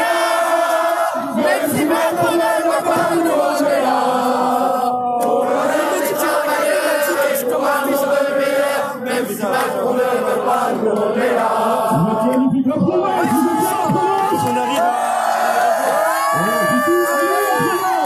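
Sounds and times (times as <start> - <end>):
crowd chanting in unison: 0.0 - 16.6.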